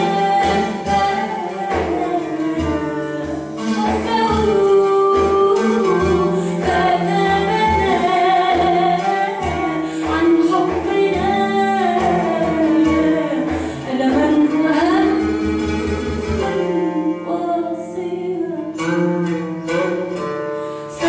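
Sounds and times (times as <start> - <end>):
oud: 0.0 - 21.0
woman singing: 0.0 - 21.0.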